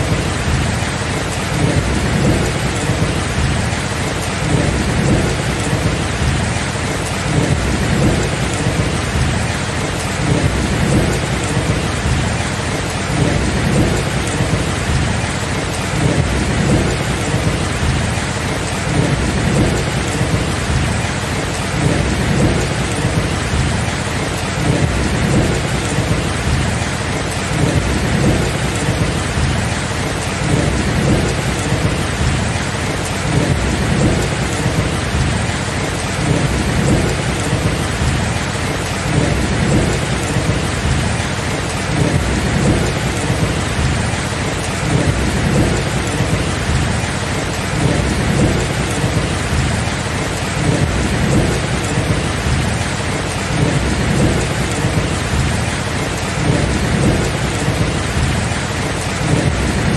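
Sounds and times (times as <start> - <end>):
heavy rain: 0.0 - 59.9
low rumble of thunder: 0.0 - 59.9.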